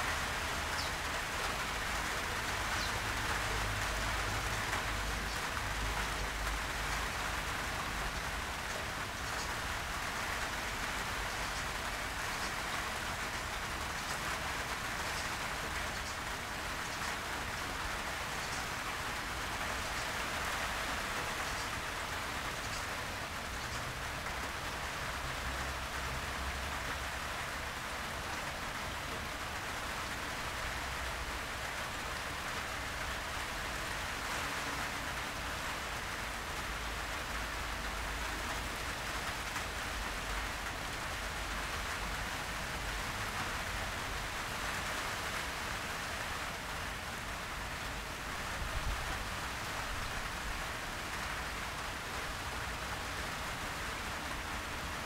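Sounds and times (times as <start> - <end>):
heavy rain on foliage: 0.0 - 55.0.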